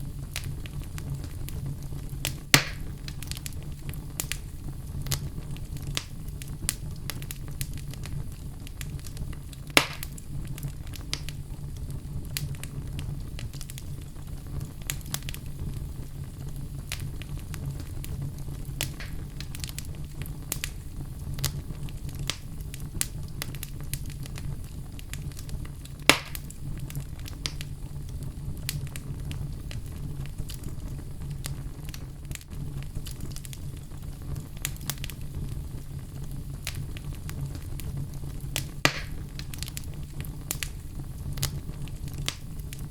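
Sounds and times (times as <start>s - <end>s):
fire pops: 0.0s - 42.9s
wood fire crackling: 0.0s - 42.9s.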